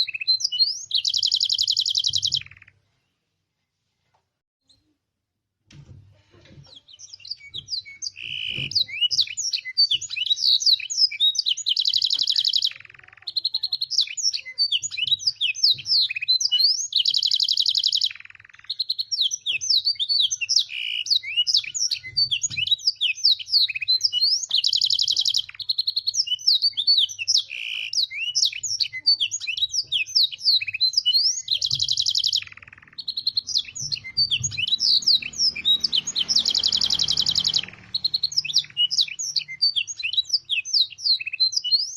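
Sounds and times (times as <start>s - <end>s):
canary singing: 0.0s - 2.8s, 6.7s - 41.9s.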